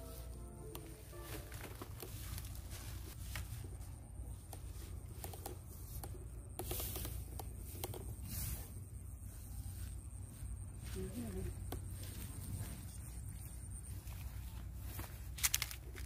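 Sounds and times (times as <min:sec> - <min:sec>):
dry grass rustling underfoot: 0:00.0 - 0:16.0
steady low rumble: 0:00.0 - 0:16.0.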